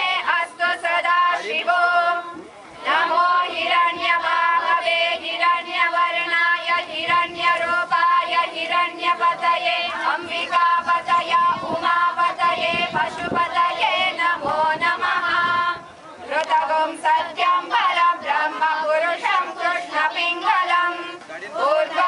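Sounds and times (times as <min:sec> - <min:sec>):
women chanting a hymn: 0:00.0 - 0:22.0.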